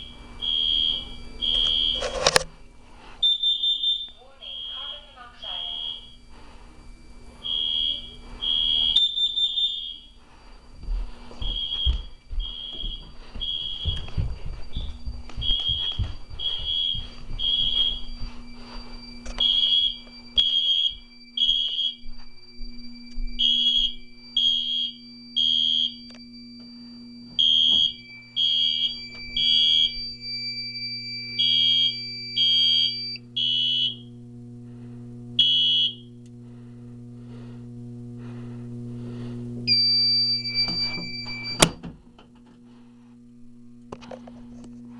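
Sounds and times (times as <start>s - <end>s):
smoke alarm beeps: 0.0s - 37.6s, 38.2s - 42.0s
loud steady alarm tone: 0.0s - 44.9s
steady high alarm tone: 0.0s - 44.9s.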